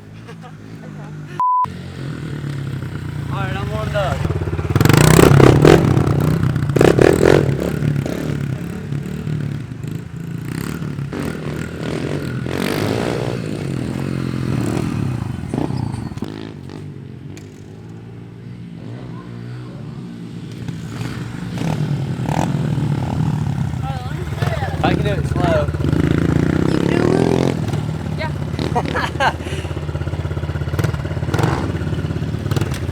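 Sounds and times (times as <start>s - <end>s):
pit bike engine revving: 0.4s - 32.9s.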